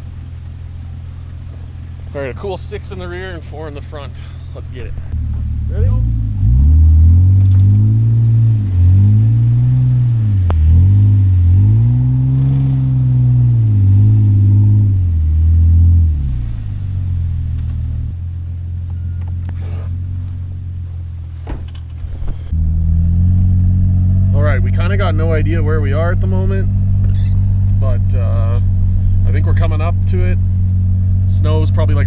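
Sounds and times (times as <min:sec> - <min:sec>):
truck engine revving: 0:00.0 - 0:18.8, 0:19.4 - 0:32.0.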